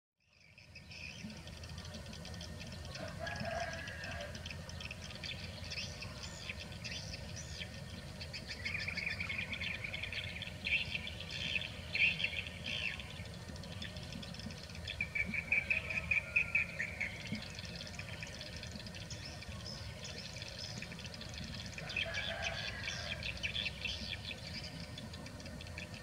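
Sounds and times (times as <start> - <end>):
birds chirping: 0.4 - 26.0.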